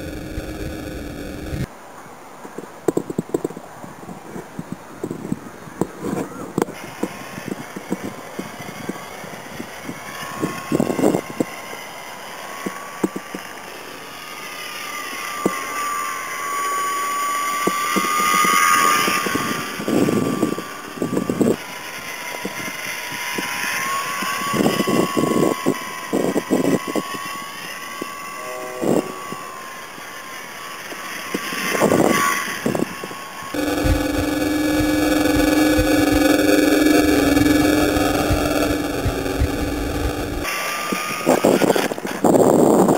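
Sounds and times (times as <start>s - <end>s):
model plane motor whining: 0.0s - 1.7s, 6.1s - 42.9s.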